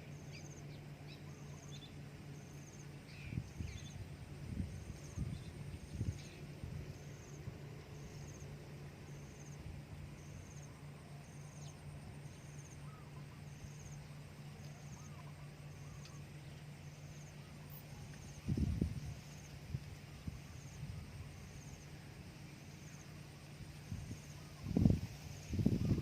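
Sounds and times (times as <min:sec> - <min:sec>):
distant bird calls: 0:00.0 - 0:26.0
insect chirping: 0:00.0 - 0:26.0
low steady hum: 0:00.0 - 0:26.0.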